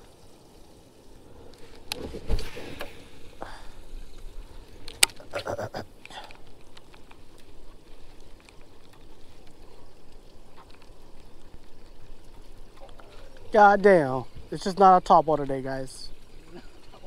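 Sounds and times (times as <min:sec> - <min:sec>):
light water noise: 0:00.0 - 0:17.0.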